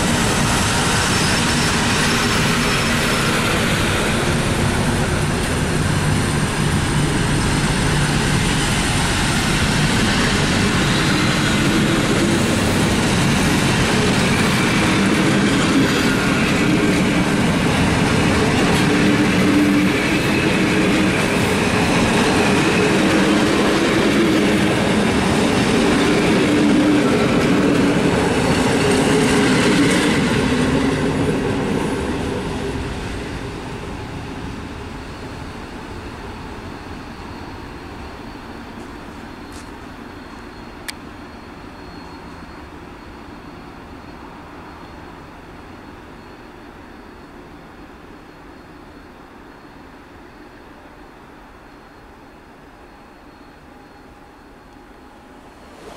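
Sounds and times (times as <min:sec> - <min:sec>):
train wheels on rails: 0:00.0 - 0:55.9.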